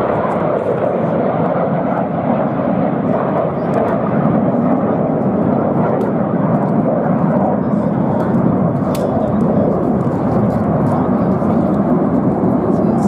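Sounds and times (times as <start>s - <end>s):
jet roar: 0.0s - 13.0s.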